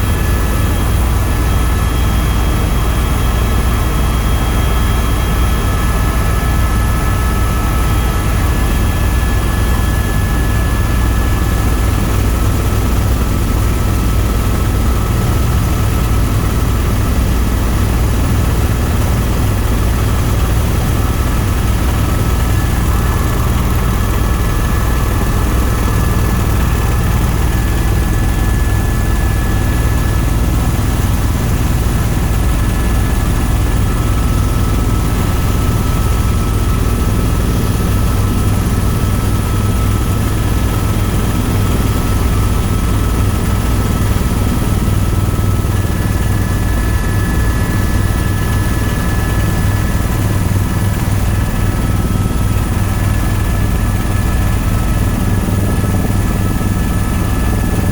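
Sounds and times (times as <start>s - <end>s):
helicopter rotor drone: 0.0s - 57.9s
high turbine whine: 0.0s - 57.9s.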